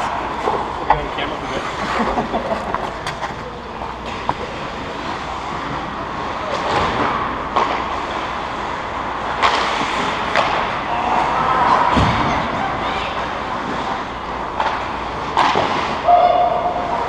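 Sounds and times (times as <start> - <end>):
echoing arena hum: 0.0 - 17.0.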